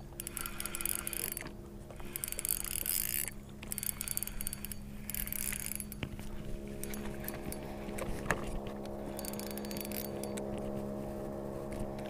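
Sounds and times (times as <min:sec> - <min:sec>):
fishing reel whirring click: 0:00.0 - 0:06.2, 0:06.8 - 0:10.5.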